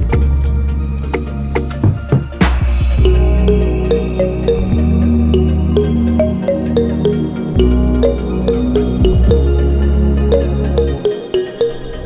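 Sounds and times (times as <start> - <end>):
soft electronic music: 0.0 - 12.0.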